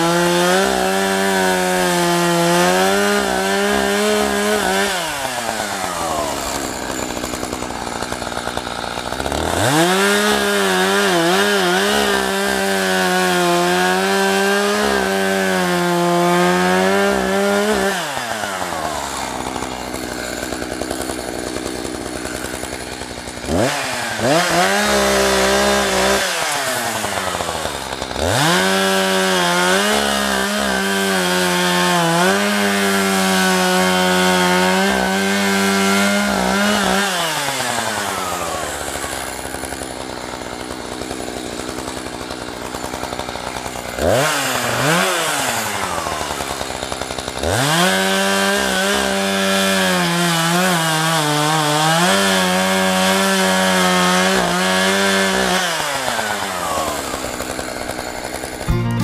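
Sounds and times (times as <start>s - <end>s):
chainsaw revving and cutting: 0.0s - 59.0s.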